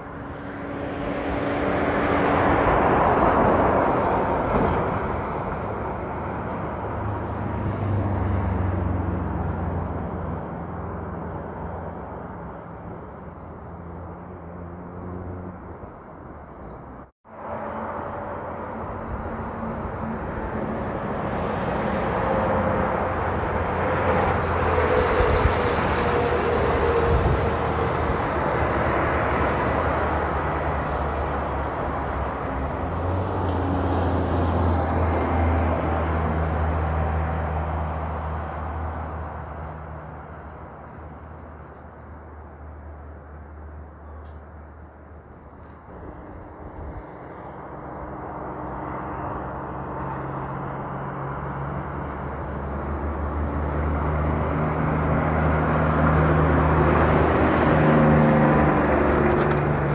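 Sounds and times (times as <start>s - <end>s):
heavy trucks passing: 0.0s - 59.9s.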